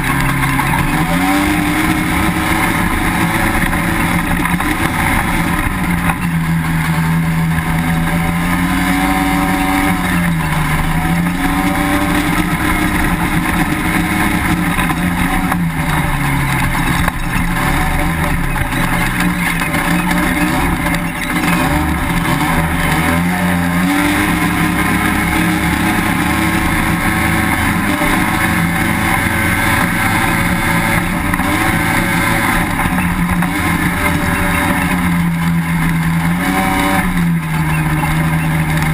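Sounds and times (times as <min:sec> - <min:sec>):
sand rail engine revving: 0:00.0 - 0:38.9.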